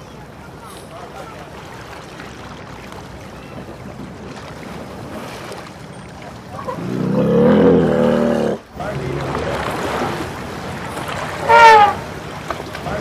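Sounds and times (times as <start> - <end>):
water splashing and spraying: 0.0 - 13.0.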